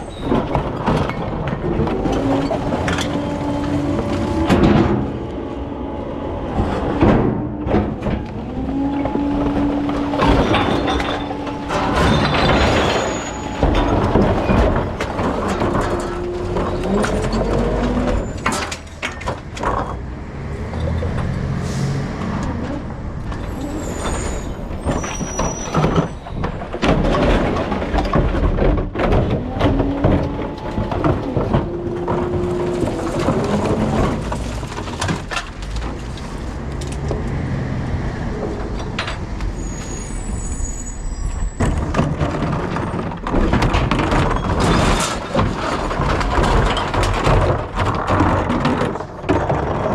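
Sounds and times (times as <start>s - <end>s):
clanks and knocks: 0.0s - 49.9s
truck engine working: 0.0s - 49.9s.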